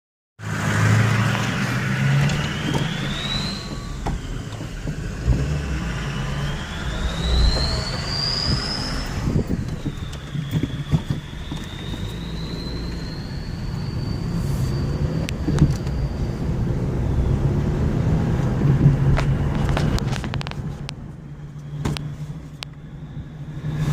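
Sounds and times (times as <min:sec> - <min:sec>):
turbocharger whistling: 0:00.4 - 0:20.2, 0:21.0 - 0:23.9
engine low rumble: 0:00.4 - 0:23.9.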